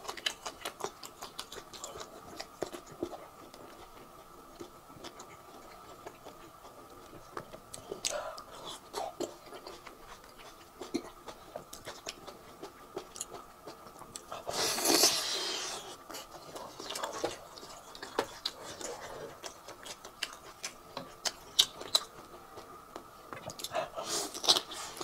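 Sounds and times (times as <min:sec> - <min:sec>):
close chewing and mouth clicks: 0:00.0 - 0:25.0.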